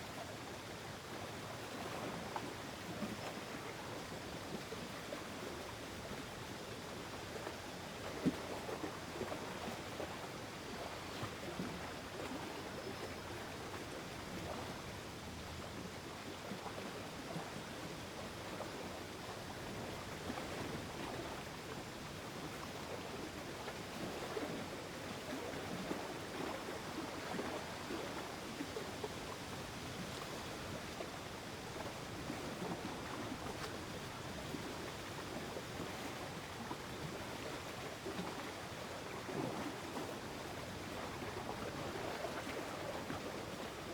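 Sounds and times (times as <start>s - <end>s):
gentle lake water movements: 0.0s - 43.9s.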